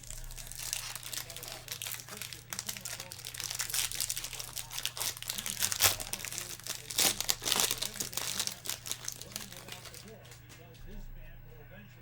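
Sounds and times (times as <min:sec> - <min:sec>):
card pack wrappers crinkling: 0:00.0 - 0:10.6.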